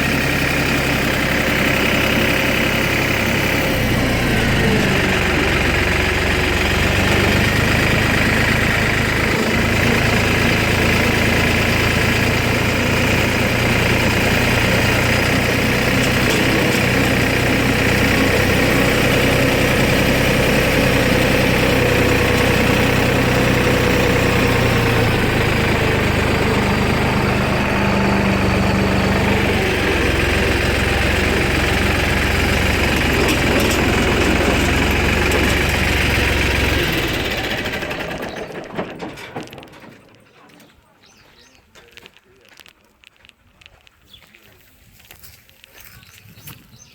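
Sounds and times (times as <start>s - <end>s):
engine running at low speed: 0.0s - 41.5s.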